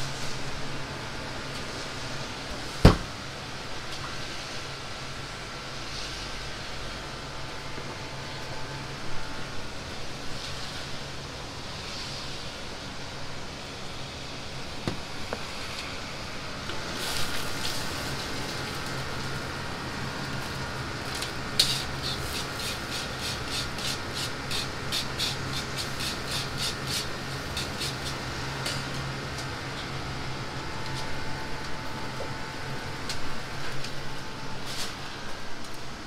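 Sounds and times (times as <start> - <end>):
gas flame hum: 0.0 - 36.0.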